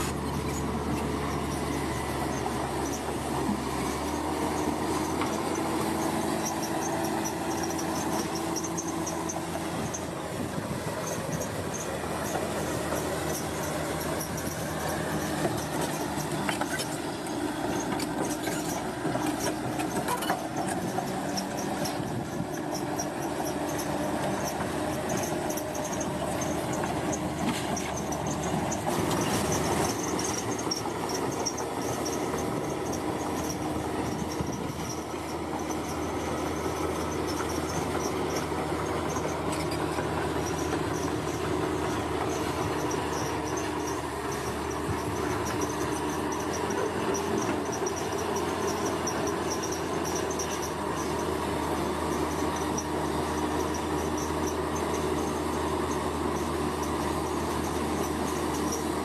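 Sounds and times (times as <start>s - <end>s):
bulldozer diesel engine running: 0.0s - 59.0s
steel tracks clanking and squealing: 0.0s - 59.0s.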